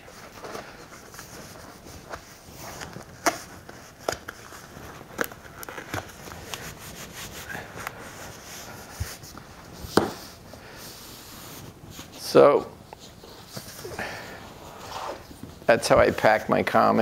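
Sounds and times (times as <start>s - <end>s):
hands rubbing cardboard flap: 0.1s - 12.3s, 12.9s - 16.2s.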